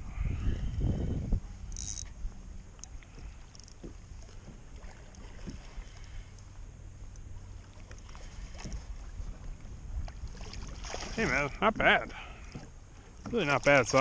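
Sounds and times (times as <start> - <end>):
wind rumble on microphone: 0.0 - 11.7
water lapping against hull: 0.0 - 14.0.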